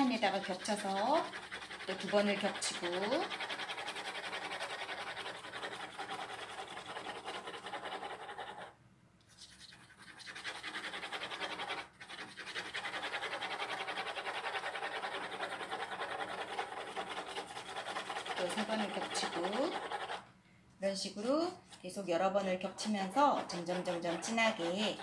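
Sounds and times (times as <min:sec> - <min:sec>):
pencil scratching on paper: 0:00.0 - 0:20.3, 0:21.0 - 0:25.0.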